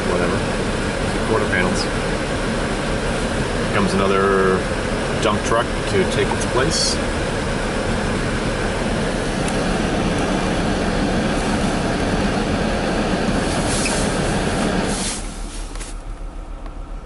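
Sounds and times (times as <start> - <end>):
diesel engines running: 0.0 - 17.0.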